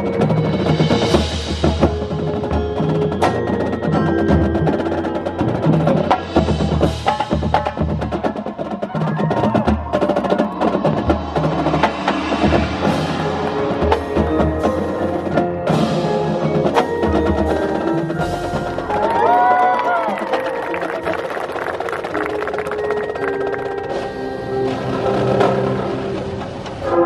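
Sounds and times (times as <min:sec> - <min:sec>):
mallet percussion: 0:00.0 - 0:27.0
marching band playing: 0:00.0 - 0:27.0.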